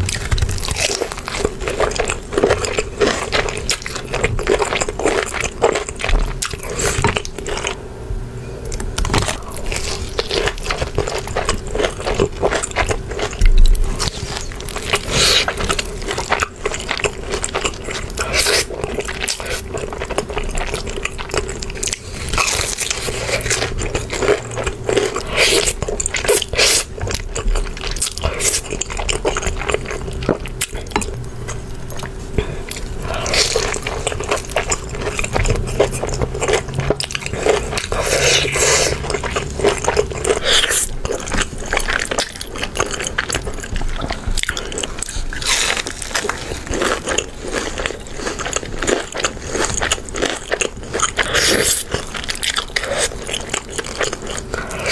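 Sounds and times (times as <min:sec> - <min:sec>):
crunching and chewing: 0:00.0 - 0:07.8, 0:08.6 - 0:54.9.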